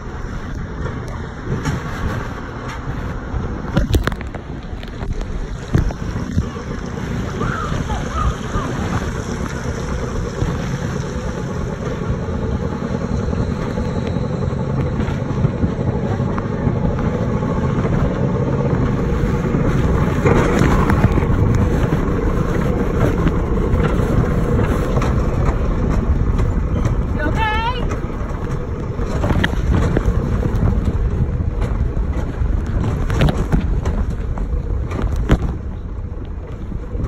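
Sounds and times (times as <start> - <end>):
coaster car rumbling on rail: 0.0 - 37.0.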